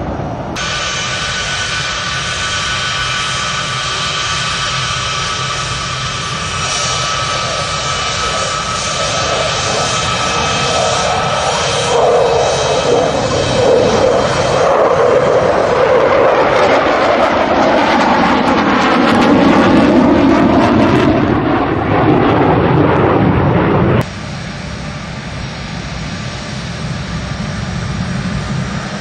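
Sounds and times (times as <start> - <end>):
fighter jets passing overhead: 0.0 - 29.0
steady jet engine: 0.0 - 29.0.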